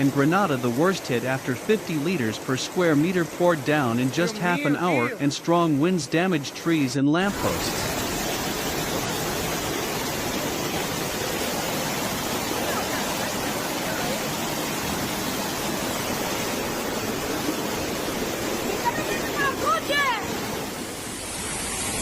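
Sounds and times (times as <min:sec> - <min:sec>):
floodwater roaring: 0:00.0 - 0:22.0.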